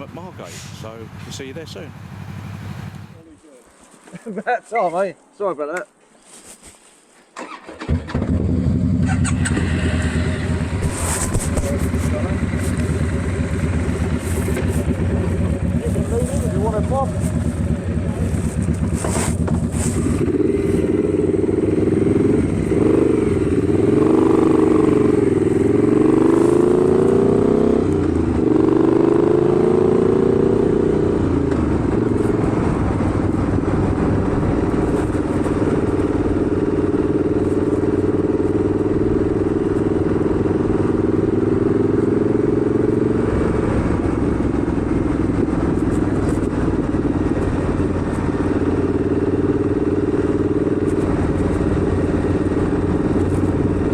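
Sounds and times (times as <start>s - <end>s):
motorcycle engine pulling away: 7.4s - 53.9s.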